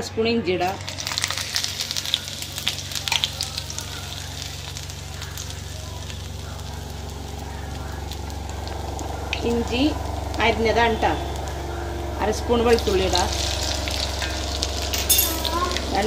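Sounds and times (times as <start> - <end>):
low hum: 0.0 - 16.0
ginger sizzling in hot oil: 0.6 - 16.0.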